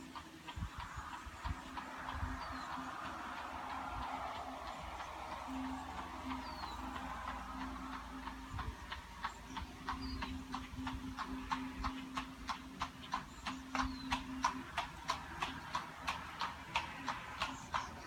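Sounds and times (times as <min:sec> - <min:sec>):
bird chirping: 0:00.0 - 0:18.0
horse hooves clip-clopping: 0:00.0 - 0:18.0.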